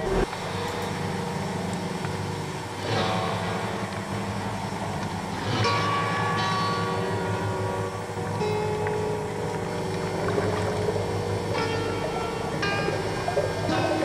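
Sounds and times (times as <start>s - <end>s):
sustained music notes: 0.0s - 1.7s, 2.7s - 14.0s
steady low drone: 0.0s - 14.0s.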